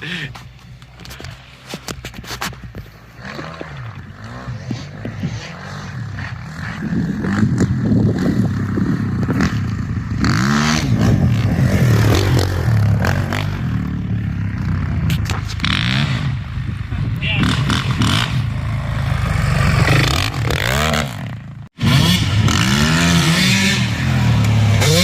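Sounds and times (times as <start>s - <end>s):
dirt bike engine revving: 3.0s - 25.0s.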